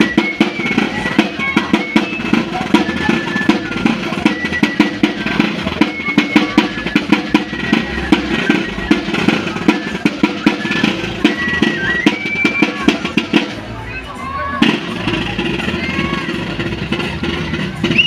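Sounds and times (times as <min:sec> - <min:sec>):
fast dense drumming: 0:00.0 - 0:13.7, 0:14.6 - 0:18.0.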